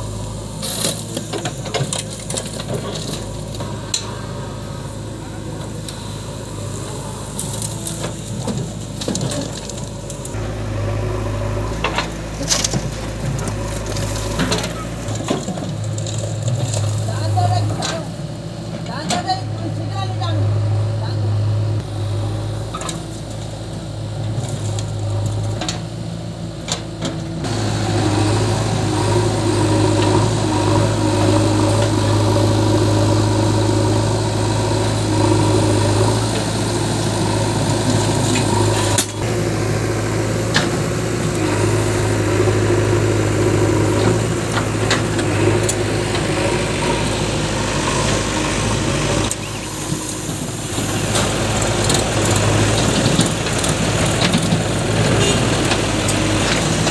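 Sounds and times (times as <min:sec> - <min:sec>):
diesel engines droning: 0:00.0 - 0:56.9.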